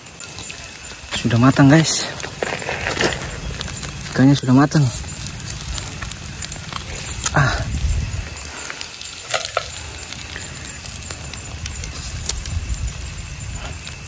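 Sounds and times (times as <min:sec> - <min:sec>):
campfire crackling and hissing: 0:00.0 - 0:14.0
sticks scraping in embers: 0:00.1 - 0:14.0.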